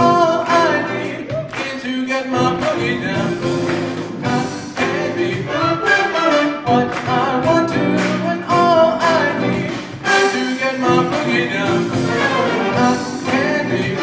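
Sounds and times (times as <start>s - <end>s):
jazz band playing: 0.0s - 14.0s
man singing: 0.0s - 14.0s.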